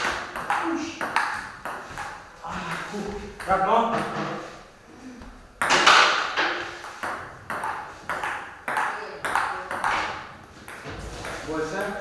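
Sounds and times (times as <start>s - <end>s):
table tennis ball hitting paddles: 0.0s - 4.2s, 5.6s - 12.0s.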